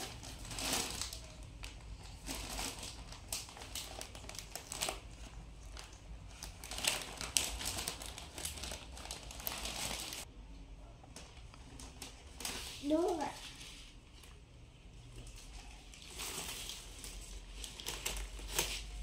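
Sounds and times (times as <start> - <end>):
bouquet wrapping crinkling: 0.0 - 10.3, 11.1 - 14.4, 15.1 - 19.0.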